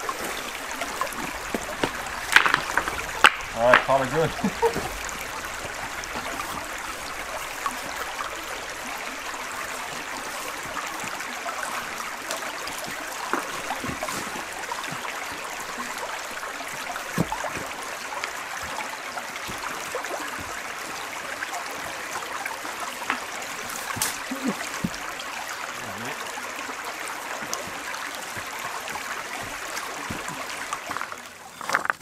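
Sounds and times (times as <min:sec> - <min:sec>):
stream babbling over stones: 0:00.0 - 0:32.0.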